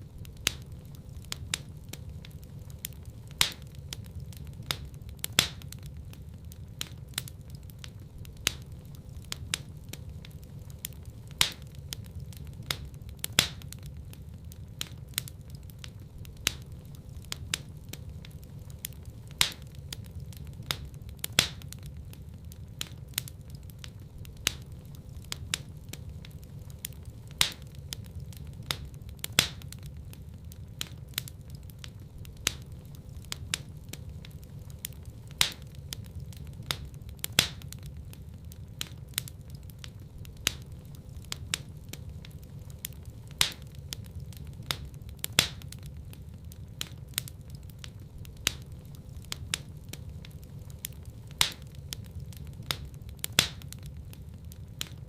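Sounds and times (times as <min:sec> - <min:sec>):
low rumble of burning fire: 0:00.0 - 0:55.0
wood fire crackling and popping: 0:00.0 - 0:55.0.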